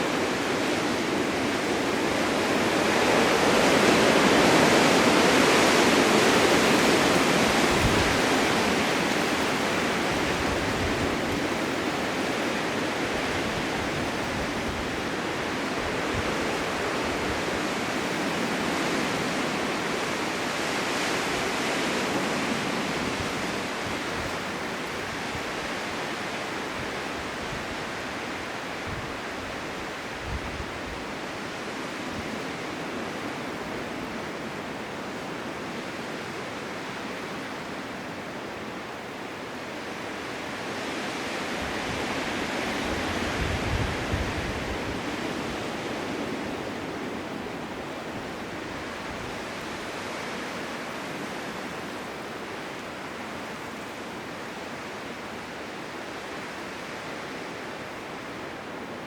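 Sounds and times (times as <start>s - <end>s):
blizzard wind rushing: 0.0s - 59.0s.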